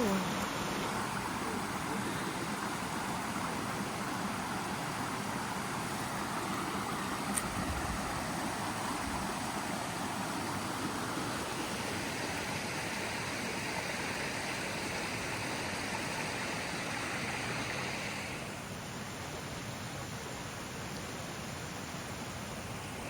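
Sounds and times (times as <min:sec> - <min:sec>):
steady rushing hiss: 0:00.0 - 0:23.0.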